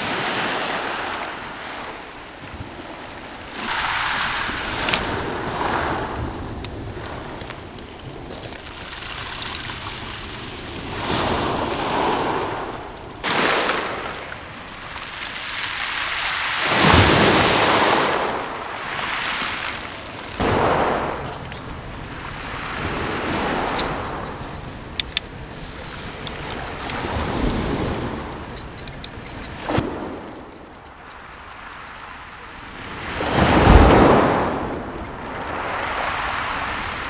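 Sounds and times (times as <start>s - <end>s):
waves breaking on pebble beach: 0.0s - 24.4s, 25.3s - 28.5s, 32.7s - 37.0s.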